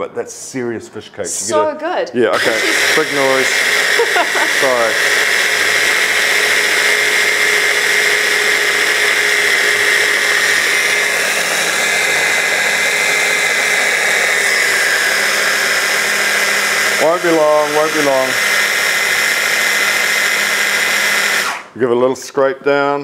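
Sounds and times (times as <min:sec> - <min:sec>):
stick blender chopping: 0:02.3 - 0:21.7.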